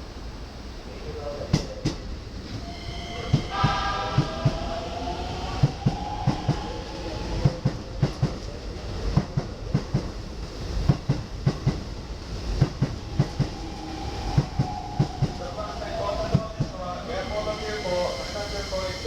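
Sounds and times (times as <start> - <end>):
faint train whine: 0.0 - 19.0
train rumble: 0.0 - 19.0.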